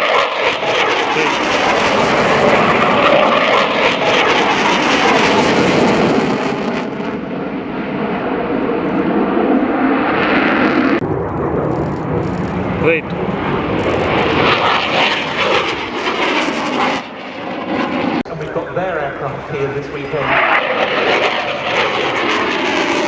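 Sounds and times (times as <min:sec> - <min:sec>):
jet fighter engine roar: 0:00.0 - 0:23.0.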